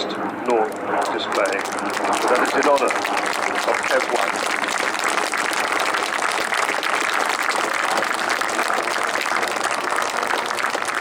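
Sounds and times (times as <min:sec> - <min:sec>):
crowd applauding: 0:00.6 - 0:11.0.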